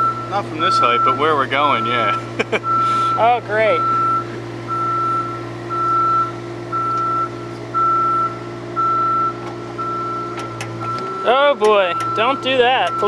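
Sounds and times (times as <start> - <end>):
alarm beeping: 0.0 - 13.0
engine humming: 0.0 - 13.0.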